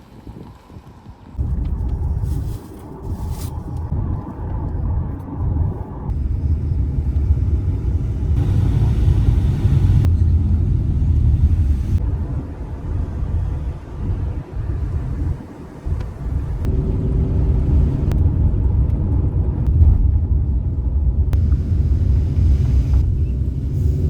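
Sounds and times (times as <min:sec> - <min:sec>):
car driving rumble: 0:01.4 - 0:24.0.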